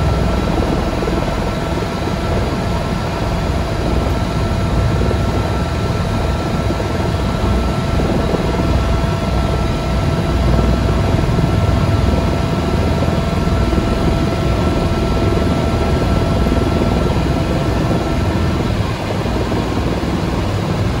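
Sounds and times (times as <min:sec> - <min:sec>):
helicopter engine low rumble: 0:00.0 - 0:21.0
helicopter turbine whine: 0:00.0 - 0:21.0.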